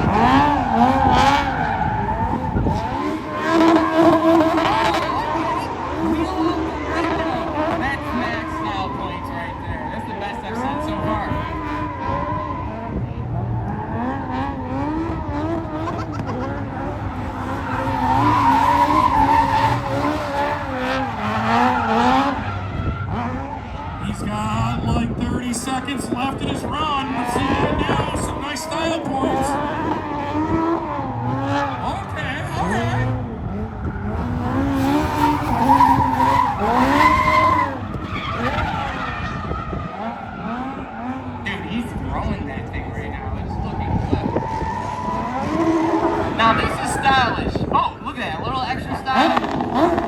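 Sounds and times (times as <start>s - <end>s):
car engine revving: 0.0s - 50.0s
tyres spinning and squealing: 0.0s - 50.0s.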